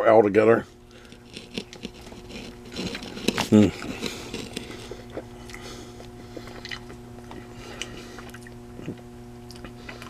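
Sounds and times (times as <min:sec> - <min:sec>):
low electrical hum: 0:00.0 - 0:10.0
person chewing food: 0:00.8 - 0:10.0.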